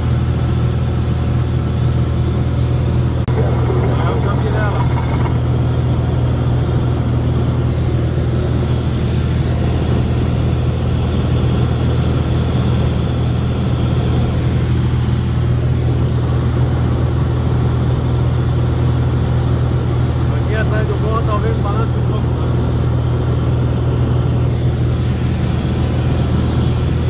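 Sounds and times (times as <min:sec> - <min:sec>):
propeller plane droning: 0:00.0 - 0:27.0.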